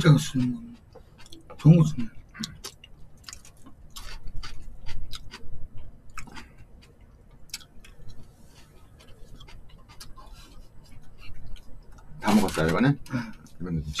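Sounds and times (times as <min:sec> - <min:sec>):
chewing with wet mouth clicks: 0:00.4 - 0:12.2.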